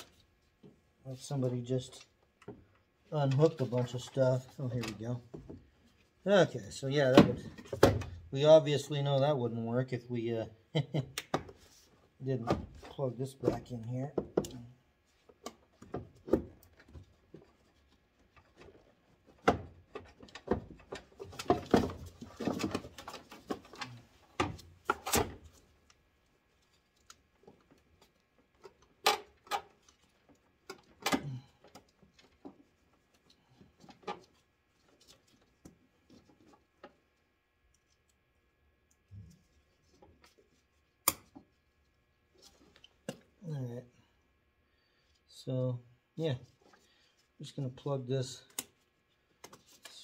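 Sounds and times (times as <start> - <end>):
rustling and knocks of plastic parts: 0.0 - 6.2, 6.8 - 9.3, 11.3 - 43.4, 48.2 - 50.0.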